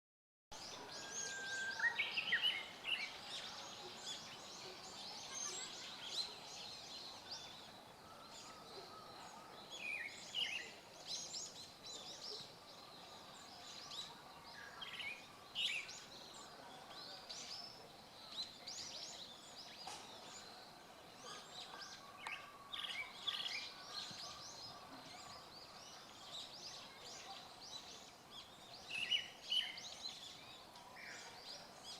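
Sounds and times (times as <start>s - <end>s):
small birds chirping faintly: 0.5s - 31.9s.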